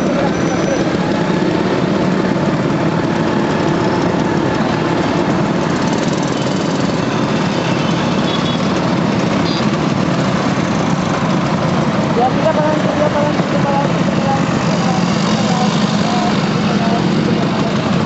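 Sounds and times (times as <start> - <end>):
scooter engines running: 0.0 - 18.0.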